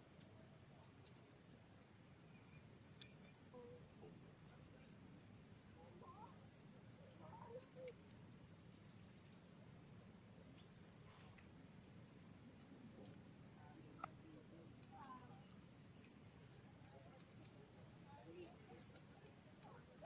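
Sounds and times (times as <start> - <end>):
insect chorus chirping: 0.0 - 20.0.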